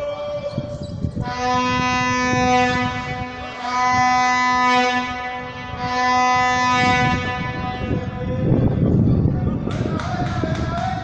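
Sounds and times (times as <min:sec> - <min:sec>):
horn long steady note: 0:00.0 - 0:11.0.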